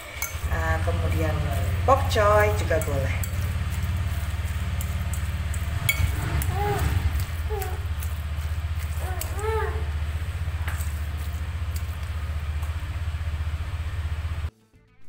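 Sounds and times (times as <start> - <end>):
steady low hum: 0.0 - 14.5
fork stirring in a glass bowl: 0.1 - 12.8.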